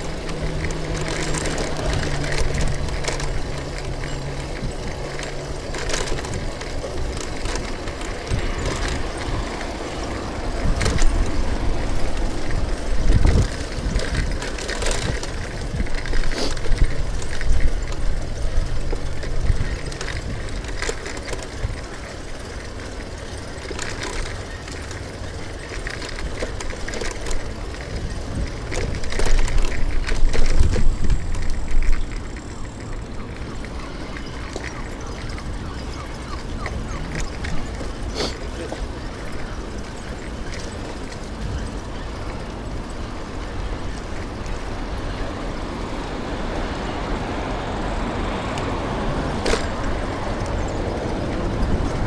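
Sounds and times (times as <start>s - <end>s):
passing vehicles: 0.0s - 52.0s.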